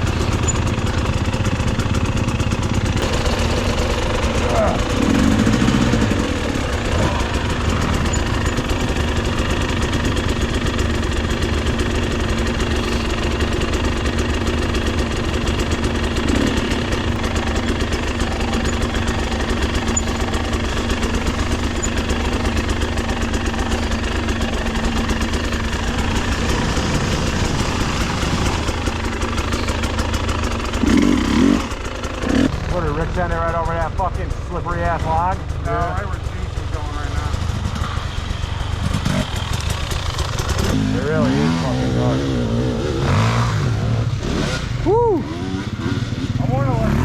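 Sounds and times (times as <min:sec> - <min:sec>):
dirt bike engine idling: 0:00.0 - 0:47.0.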